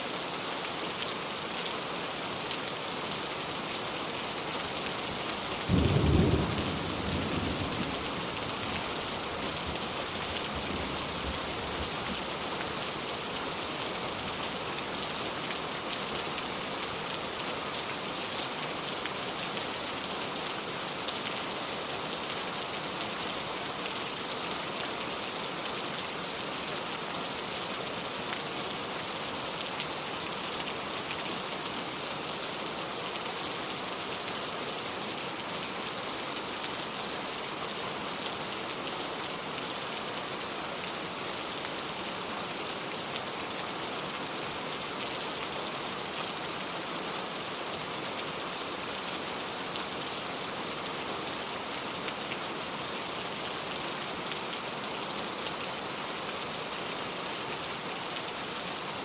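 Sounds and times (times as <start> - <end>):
heavy rain pouring: 0.2 - 59.0.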